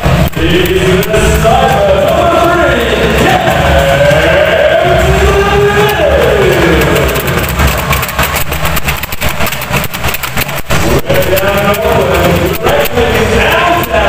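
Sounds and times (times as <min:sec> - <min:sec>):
noisy rumble with clicks: 0:00.0 - 0:14.0
singing over sound system: 0:00.0 - 0:14.0.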